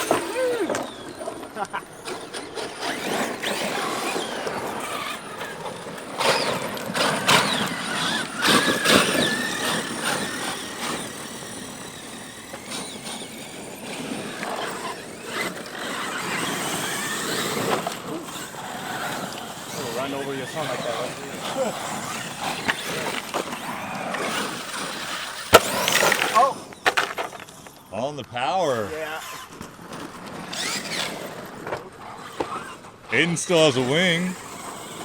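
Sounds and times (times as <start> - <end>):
rc truck motors whining: 0.0 - 35.0.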